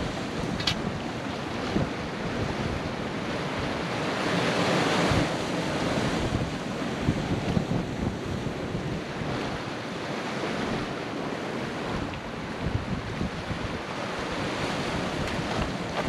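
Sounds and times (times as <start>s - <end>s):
wind buffeting microphone: 0.0s - 9.7s, 11.8s - 16.0s
waves washing against rocks: 0.0s - 16.0s.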